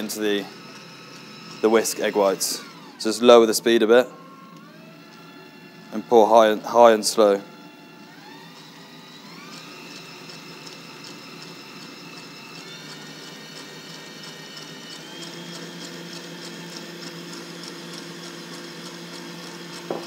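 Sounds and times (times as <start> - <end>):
stand mixer motor whine: 0.0 - 20.0.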